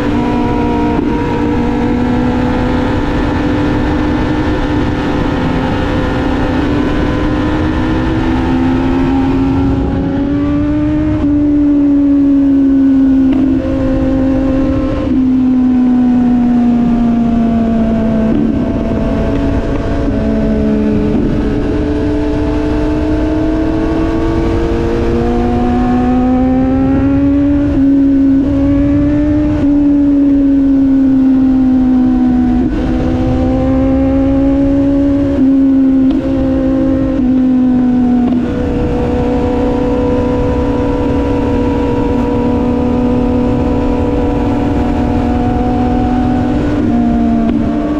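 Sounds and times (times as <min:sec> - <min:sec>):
motorcycle engine running: 0:00.0 - 0:47.9
wind rumble on microphone: 0:00.0 - 0:47.9.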